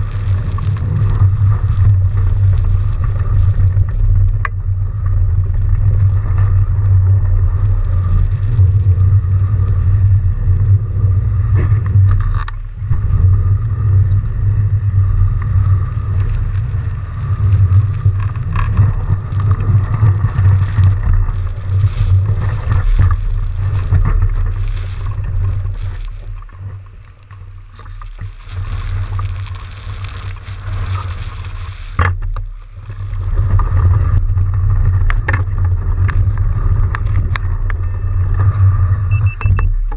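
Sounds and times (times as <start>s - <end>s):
small clicks and rattles: 0.0s - 10.8s, 11.5s - 38.7s
wind buffeting microphone: 0.0s - 39.9s.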